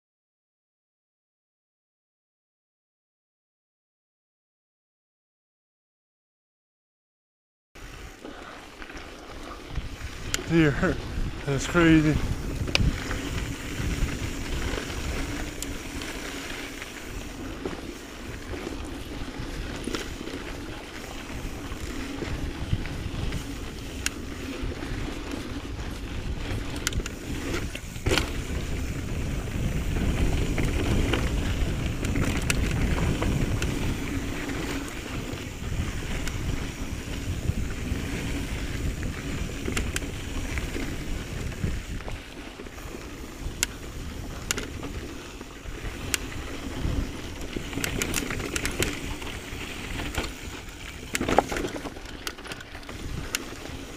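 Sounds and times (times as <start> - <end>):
tyres rolling on dirt: 7.8 - 53.9
wind on microphone: 9.5 - 53.9
bike rattling and knocking: 9.7 - 53.9.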